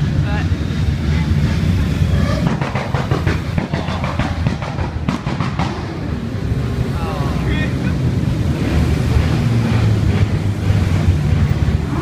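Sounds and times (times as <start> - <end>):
motorcycle exhaust pulsing: 0.0 - 12.0
motorcycles rumbling past: 0.0 - 12.0.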